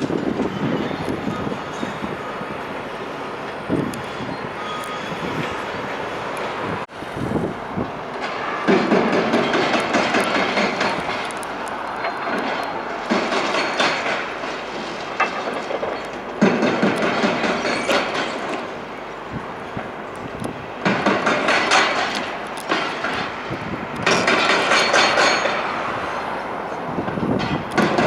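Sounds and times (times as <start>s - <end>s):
demolition machinery rattling and grinding: 0.0s - 28.0s.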